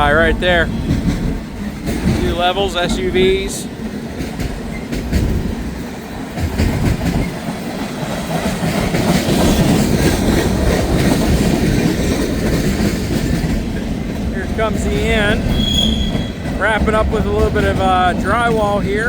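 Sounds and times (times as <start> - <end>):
train wheels clattering over rails: 0.0 - 19.0.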